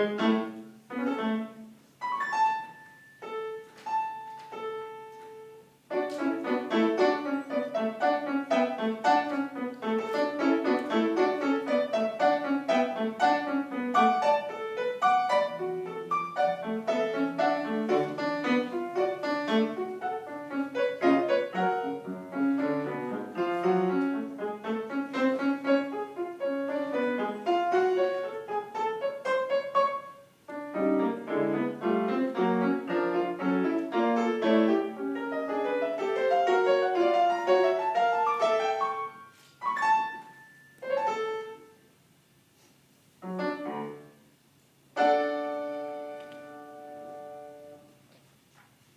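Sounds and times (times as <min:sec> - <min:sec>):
lively solo piano: 0:00.0 - 0:41.8, 0:43.2 - 0:44.2, 0:44.9 - 0:47.8.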